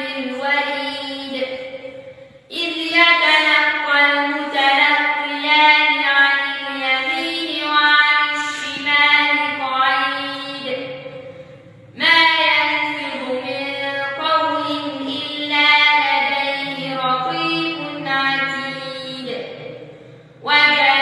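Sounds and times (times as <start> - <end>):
boy reciting melodically: 0.0 - 21.0.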